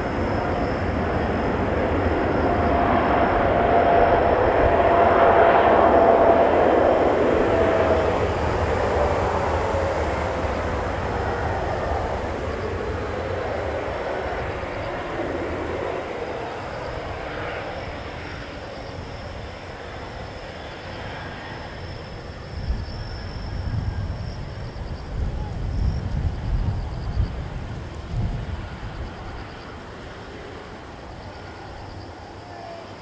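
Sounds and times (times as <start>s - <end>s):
jet engine roar: 0.0s - 33.0s
wind gusts on microphone: 0.0s - 33.0s.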